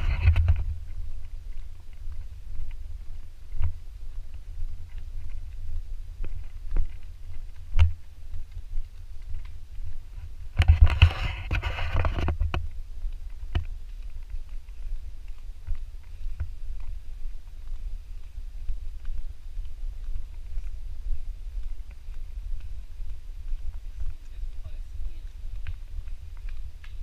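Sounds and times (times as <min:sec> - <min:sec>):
footsteps on dirt trail: 0:00.0 - 0:27.0
wind rumble: 0:00.0 - 0:27.0.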